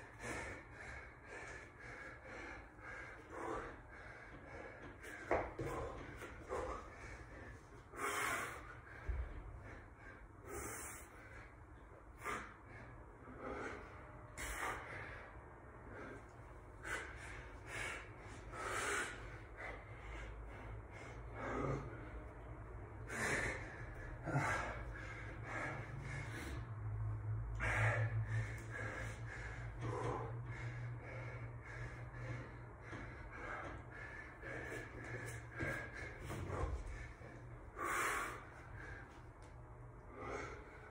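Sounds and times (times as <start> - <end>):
man breathing hard: 0.0 - 40.9.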